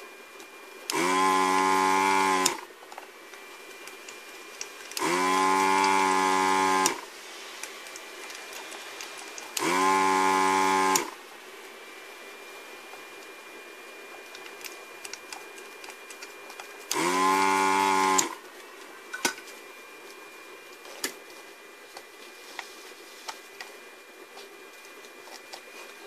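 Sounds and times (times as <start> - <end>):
desoldering pump buzzing: 0.0 - 21.2.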